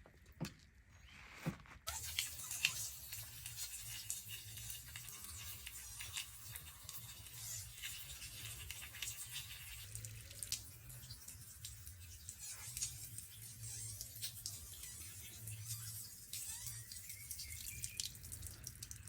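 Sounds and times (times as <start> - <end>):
water dripping and spattering: 1.9 - 19.0.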